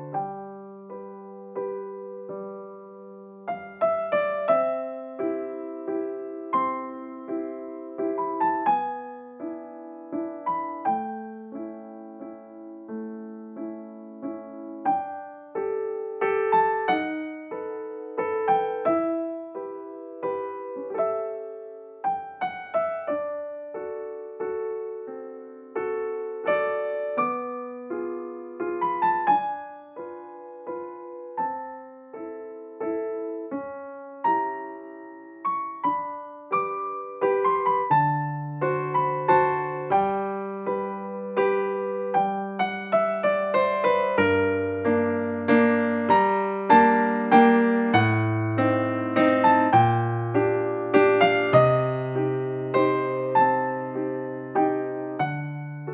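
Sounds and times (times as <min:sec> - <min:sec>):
gentle solo piano music: 0:00.0 - 0:55.9.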